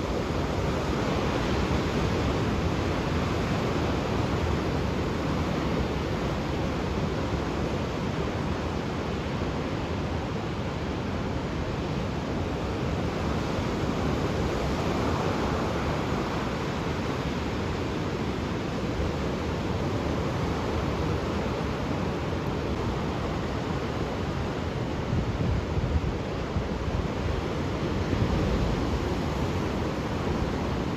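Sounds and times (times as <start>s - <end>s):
ocean waves breaking: 0.0s - 30.9s.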